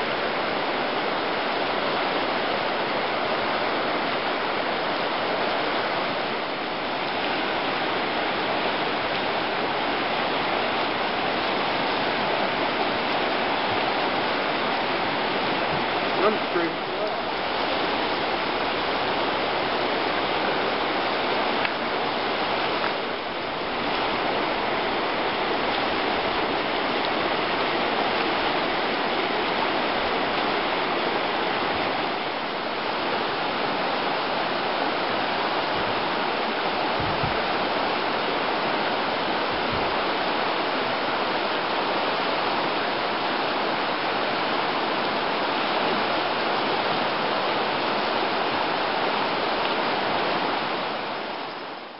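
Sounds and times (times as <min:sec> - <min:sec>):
river rushing over rapids: 0:00.0 - 0:51.9.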